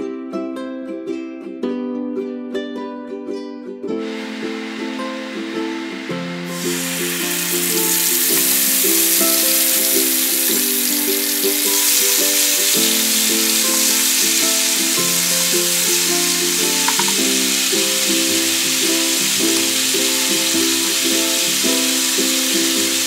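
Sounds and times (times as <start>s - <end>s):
ukulele music: 0.0s - 23.0s
puree sizzling in hot oil: 4.0s - 23.0s.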